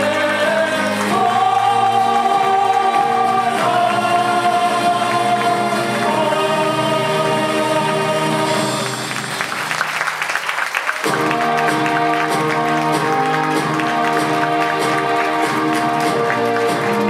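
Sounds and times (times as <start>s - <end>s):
mixed choir singing held notes: 0.0s - 9.2s, 11.1s - 17.0s.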